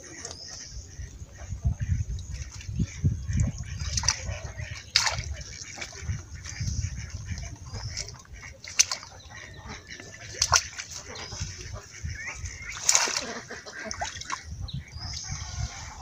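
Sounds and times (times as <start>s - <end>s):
feet splashing through water: 1.9s - 16.0s.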